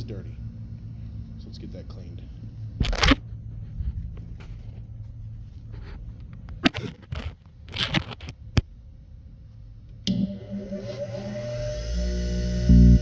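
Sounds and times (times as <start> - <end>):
steady low hum: 0.0 - 6.6, 8.4 - 13.0.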